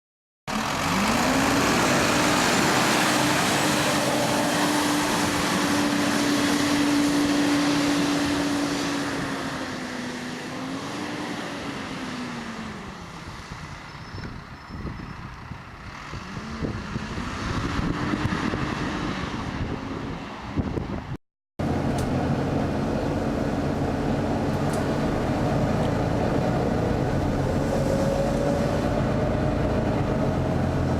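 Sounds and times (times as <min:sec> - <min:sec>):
engine cooling fan whining: 0:00.5 - 0:21.0, 0:21.6 - 0:30.9.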